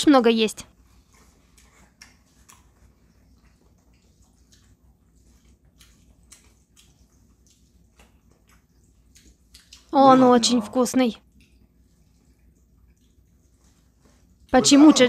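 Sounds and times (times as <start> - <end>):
noodles chewed and slurped: 0.7 - 15.0.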